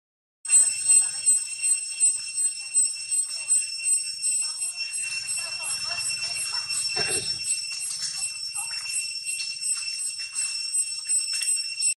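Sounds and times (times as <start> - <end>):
high-pitched multi-tone drone: 0.5 - 12.0.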